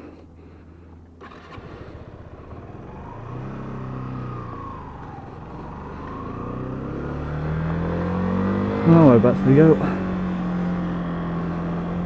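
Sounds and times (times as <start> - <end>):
motorcycle engine revving: 1.2 - 12.0.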